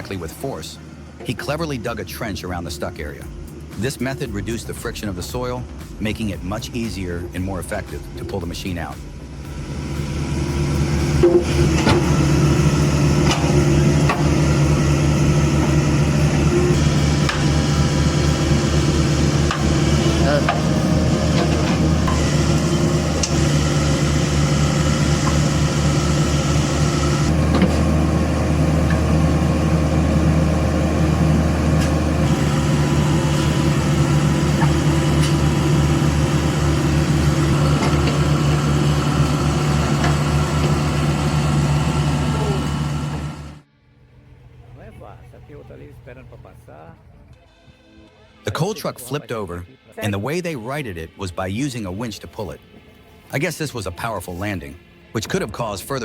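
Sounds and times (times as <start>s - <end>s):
heavy diesel engine under load: 0.0s - 46.9s.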